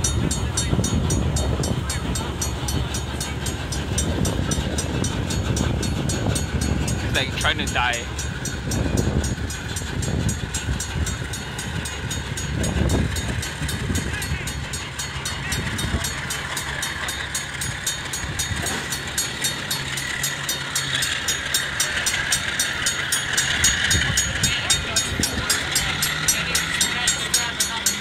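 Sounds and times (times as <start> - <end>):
crossing bell ringing: 0.0 - 28.0
freight train wheels rumbling on rails: 0.0 - 28.0.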